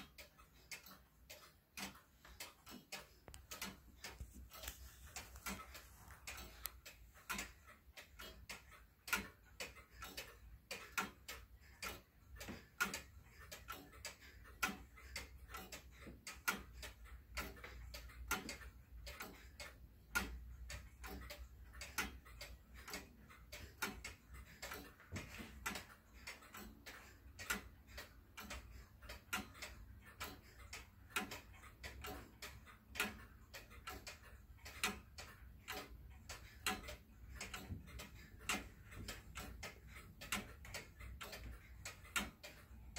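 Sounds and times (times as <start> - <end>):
clock ticking faintly: 0.0 - 42.9.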